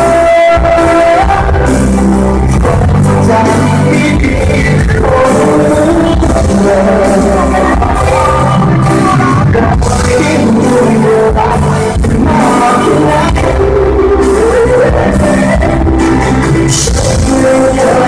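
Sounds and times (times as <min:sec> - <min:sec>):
backing band playing: 0:00.0 - 0:18.0
man singing: 0:00.0 - 0:18.0.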